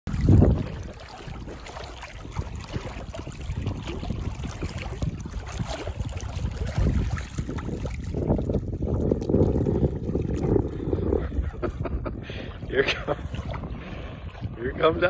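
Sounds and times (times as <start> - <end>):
water sloshing and lapping: 0.1 - 15.0
wind buffeting the microphone: 0.1 - 15.0.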